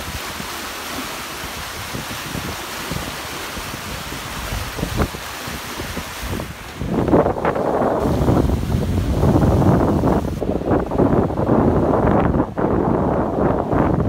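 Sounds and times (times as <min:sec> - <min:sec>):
water rushing and churning: 0:00.0 - 0:14.0
wind buffeting microphone: 0:01.3 - 0:14.0.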